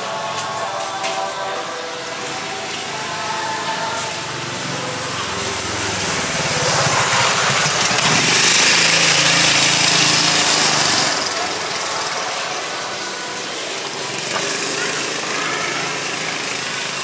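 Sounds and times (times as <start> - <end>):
small vehicle engine passing: 1.8 - 17.0.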